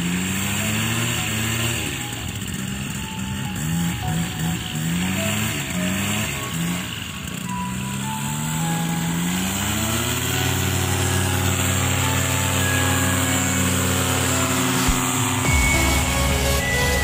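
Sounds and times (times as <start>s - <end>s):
paramotor engine revving: 0.0s - 17.0s.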